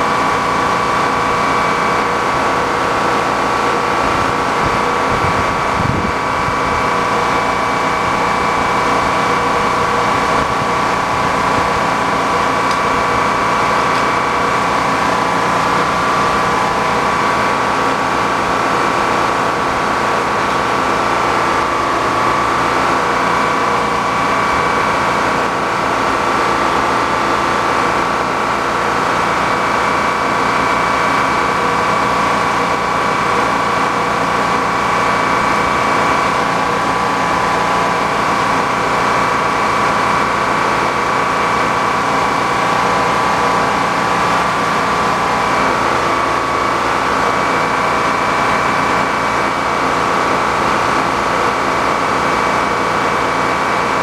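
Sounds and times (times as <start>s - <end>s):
sawmill machine drone: 0.0s - 54.0s.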